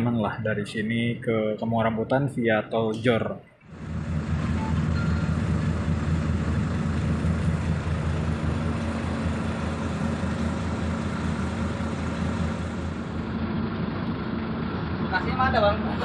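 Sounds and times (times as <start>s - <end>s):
bus diesel engine idling: 3.2s - 16.0s.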